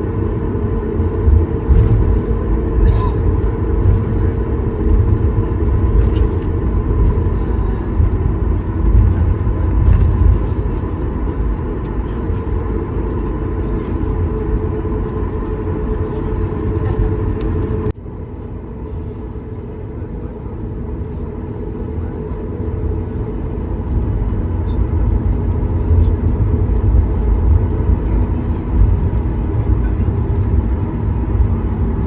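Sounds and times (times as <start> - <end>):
airliner low rumble: 0.0 - 32.0.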